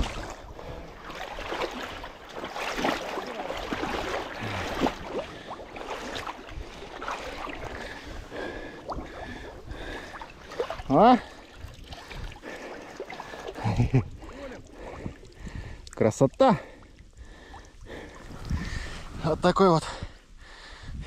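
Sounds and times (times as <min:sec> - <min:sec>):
water sloshing and splashing: 0:00.0 - 0:19.2.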